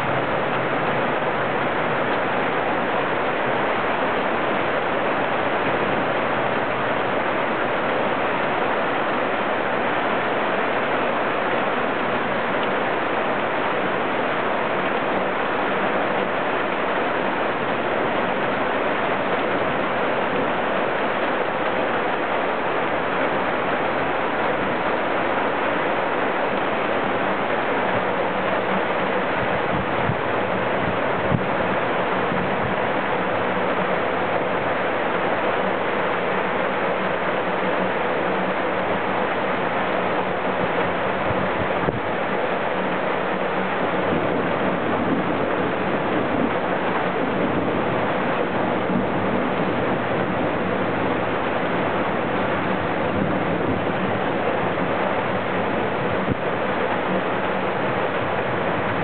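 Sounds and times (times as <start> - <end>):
rain falling steadily: 0.0 - 59.0.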